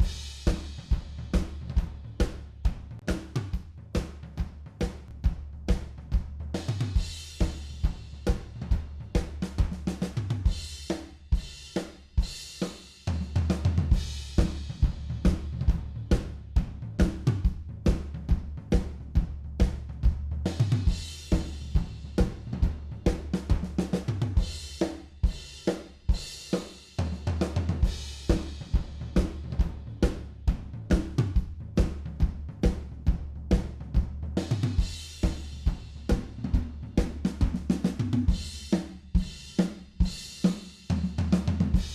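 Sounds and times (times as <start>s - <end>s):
drum kit playing groove: 0.0s - 41.9s.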